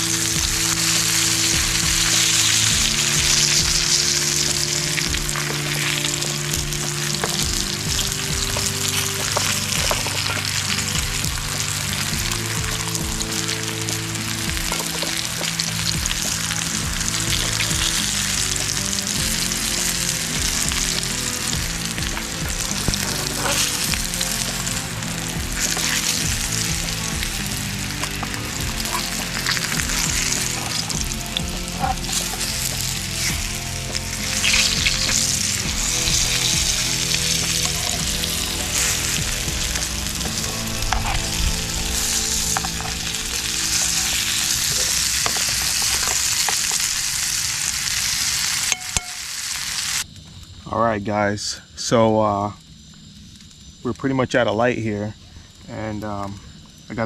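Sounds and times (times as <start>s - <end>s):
background music: 0.0s - 49.1s
food sizzling in a pan: 0.0s - 50.2s.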